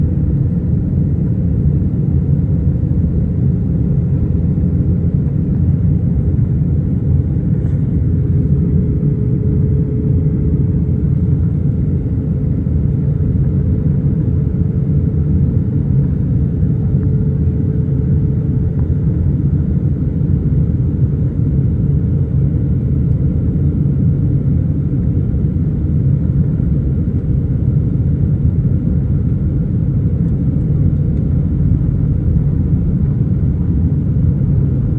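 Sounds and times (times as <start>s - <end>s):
airliner cabin rumble: 0.0s - 34.9s
faint steady hum: 0.0s - 34.9s.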